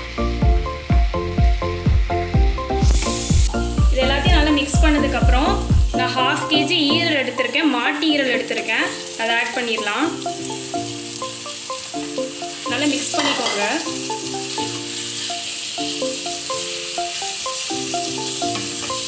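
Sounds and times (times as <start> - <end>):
background music repeating notes: 0.0 - 19.0
meat sizzling in hot oil: 0.0 - 19.0.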